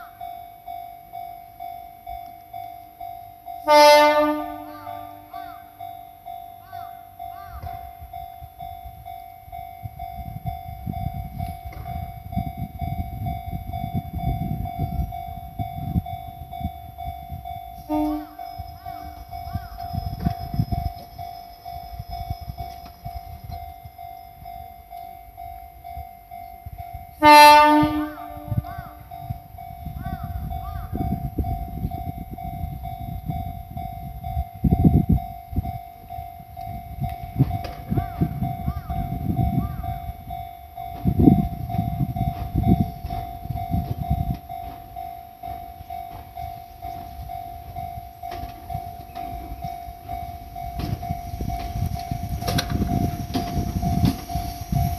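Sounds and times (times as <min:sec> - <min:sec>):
level crossing alarm ringing: 0:00.0 - 0:54.9
train rumbling over crossing: 0:00.0 - 0:54.9.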